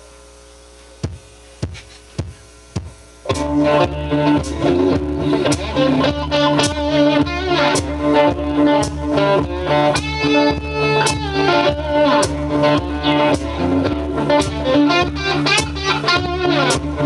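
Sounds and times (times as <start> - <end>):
guitar strumming: 2.8 - 17.0
repeating bass line: 2.8 - 17.0
bending lead guitar notes: 3.3 - 17.0.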